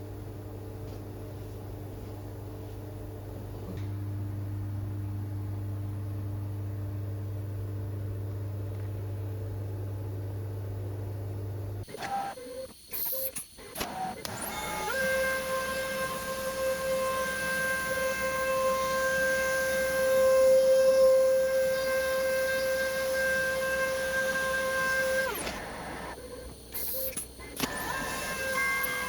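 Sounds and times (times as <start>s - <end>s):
router spindle whine: 3.8s - 29.0s.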